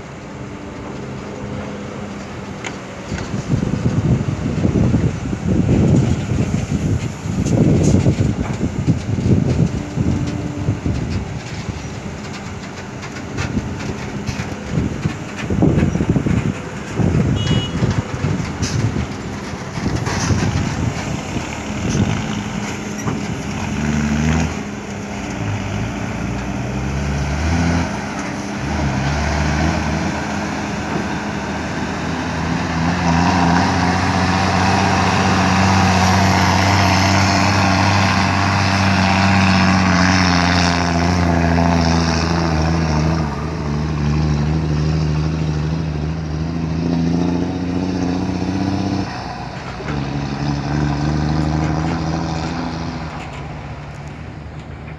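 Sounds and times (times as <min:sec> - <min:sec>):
dump truck diesel engine: 0:00.0 - 0:54.9
excavator diesel engine: 0:00.0 - 0:54.9.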